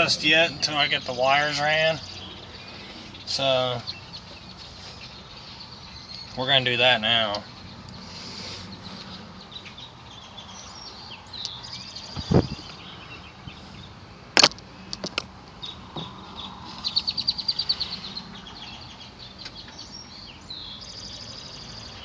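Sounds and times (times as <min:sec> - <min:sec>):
bird twittering trill: 0:00.0 - 0:14.0, 0:15.6 - 0:22.0
birds chirping: 0:00.0 - 0:22.0.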